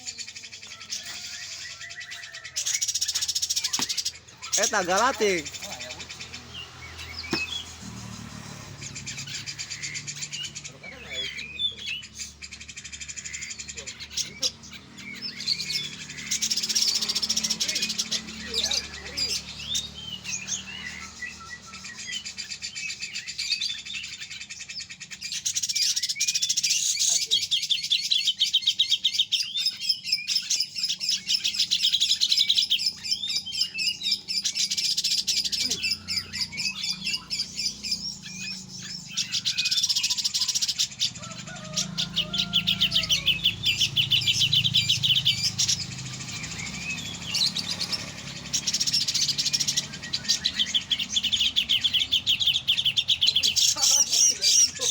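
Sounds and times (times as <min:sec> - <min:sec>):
bird singing rattling trills: 0:00.0 - 0:54.9.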